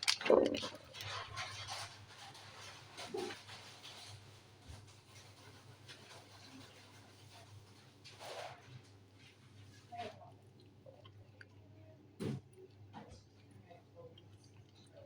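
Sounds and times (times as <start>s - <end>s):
cat crunching and chewing food: 0.0s - 15.0s.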